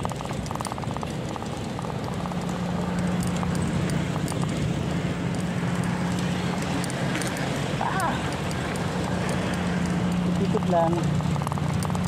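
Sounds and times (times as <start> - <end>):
bicycle freewheel ticking: 0.0 - 12.0
bicycle on paving stones: 0.0 - 12.0
steady low hum: 0.0 - 12.0.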